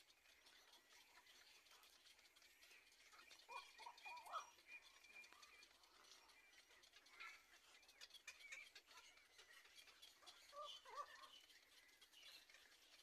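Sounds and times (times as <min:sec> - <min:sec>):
faint bird calls: 0:02.3 - 0:12.8.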